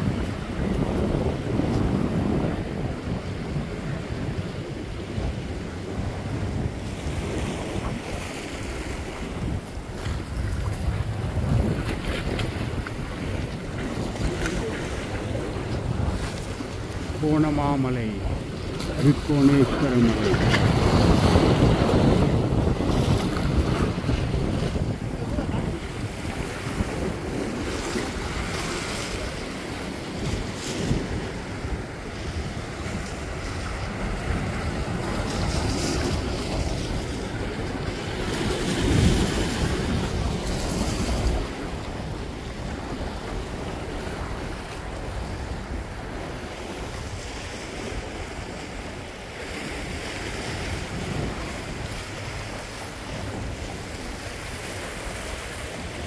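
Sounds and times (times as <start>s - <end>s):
waves lapping on rocky shore: 0.0s - 56.0s
wind buffeting microphone: 0.0s - 56.0s.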